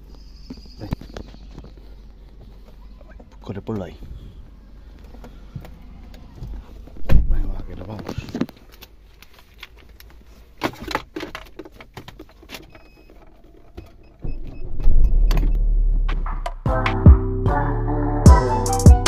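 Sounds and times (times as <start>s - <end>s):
car engine starting and rumbling: 0.0s - 17.6s.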